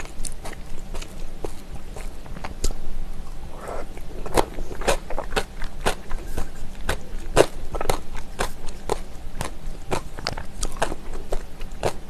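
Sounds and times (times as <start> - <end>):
wet crunchy chewing: 0.0 - 12.0.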